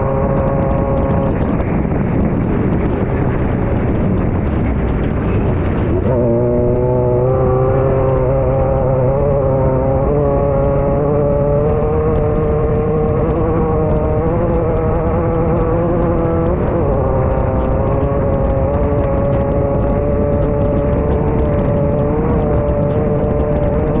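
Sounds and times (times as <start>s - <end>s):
buggy engine running hard: 0.0s - 24.0s.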